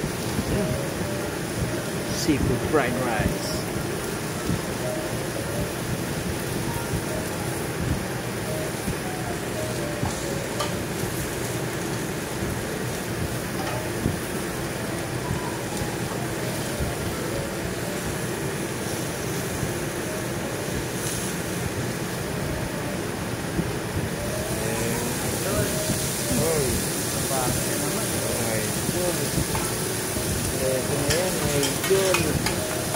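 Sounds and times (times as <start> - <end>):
egg sizzling on griddle: 0.0 - 22.8, 23.7 - 32.9
rushing kitchen noise: 0.0 - 32.9.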